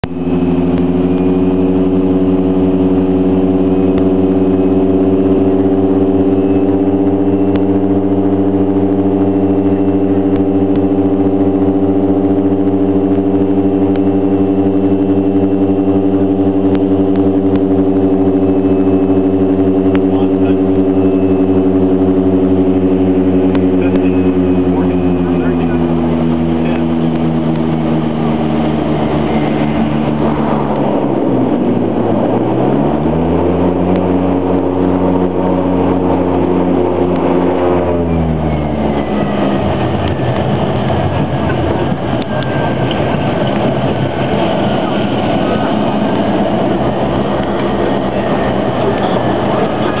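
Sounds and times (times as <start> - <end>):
faint falling whine: 0.0 - 50.0
propeller plane cabin drone: 0.0 - 50.0
rumbling rollout noise: 0.0 - 50.0.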